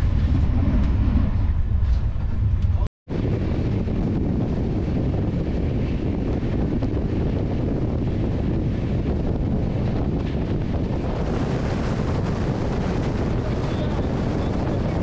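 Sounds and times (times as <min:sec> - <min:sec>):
train rumbling on rails: 0:00.0 - 0:15.0
wind buffeting microphone: 0:00.0 - 0:15.0.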